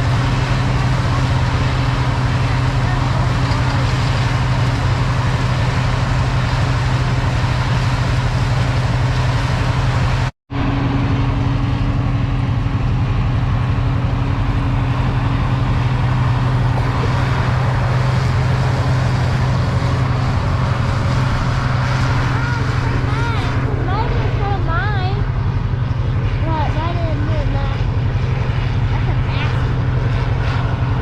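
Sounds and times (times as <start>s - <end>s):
farm machine engine droning: 0.0s - 31.0s.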